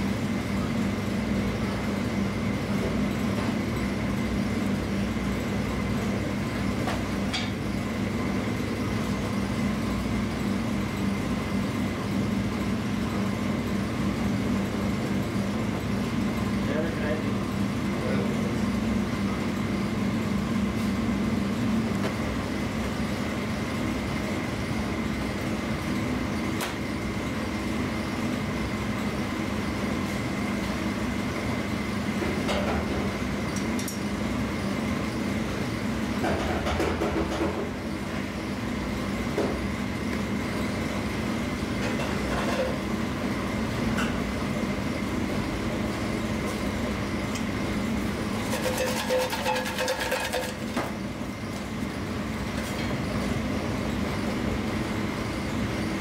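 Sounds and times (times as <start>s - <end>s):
mechanical drone with low hum: 0.0s - 56.0s.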